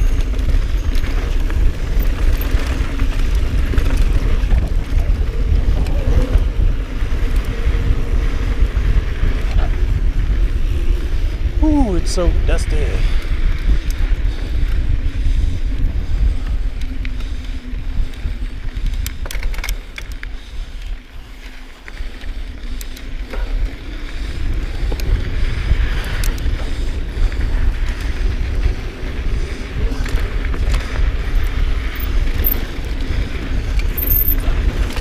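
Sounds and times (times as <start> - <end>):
bike clattering over bumps: 0.0 - 11.6, 13.2 - 35.0
bike tyres rumbling on dirt: 0.0 - 35.0
wind buffeting microphone: 0.0 - 35.0.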